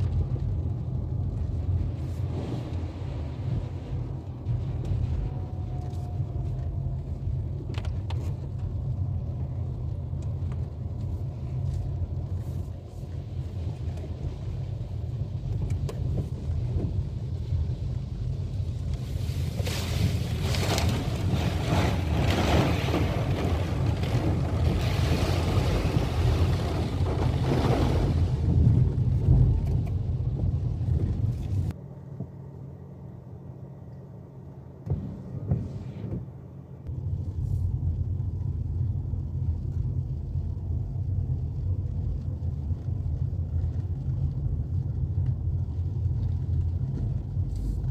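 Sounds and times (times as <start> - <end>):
car cabin rumble on wet road: 0.0 - 32.4, 34.8 - 47.9.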